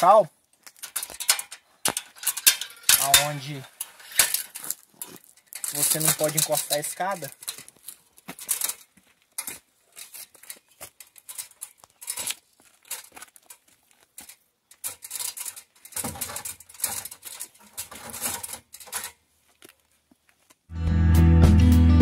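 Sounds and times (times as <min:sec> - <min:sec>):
metal ladder clicking and rattling: 0:00.6 - 0:19.2.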